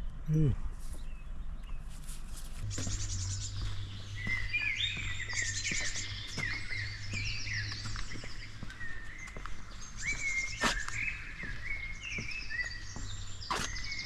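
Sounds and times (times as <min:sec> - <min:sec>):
low steady hum: 0:00.0 - 0:13.5
songbirds singing: 0:00.0 - 0:14.0.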